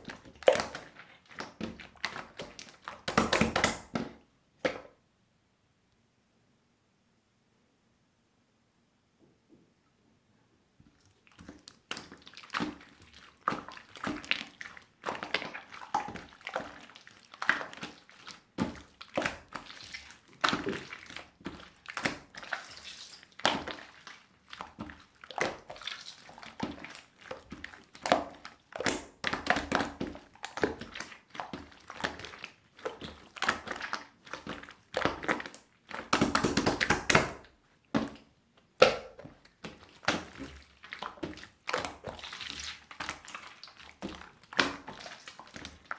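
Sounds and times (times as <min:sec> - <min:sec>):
slime squelching by hand: 0:00.0 - 0:04.9, 0:10.9 - 0:45.9.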